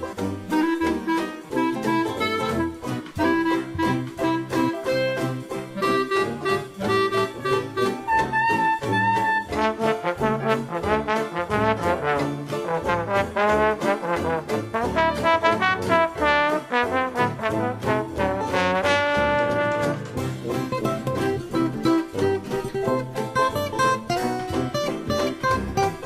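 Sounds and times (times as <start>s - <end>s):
brass jazz music: 0.0s - 26.0s.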